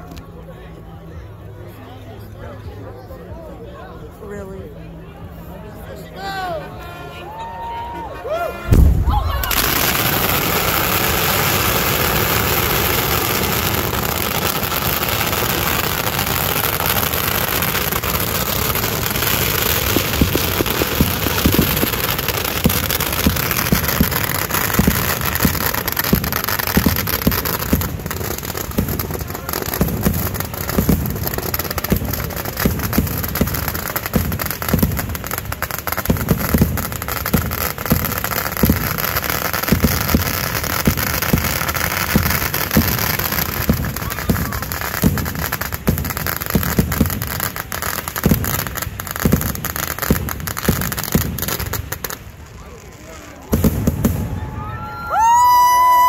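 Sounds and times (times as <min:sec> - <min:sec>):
fireworks going off: 0:06.6 - 0:56.0
bonfire crackling and popping: 0:08.6 - 0:56.0.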